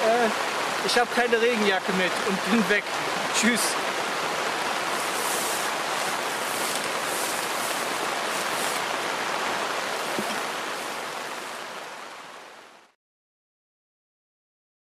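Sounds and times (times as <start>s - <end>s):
river water rushing over rocks: 0.0s - 12.9s.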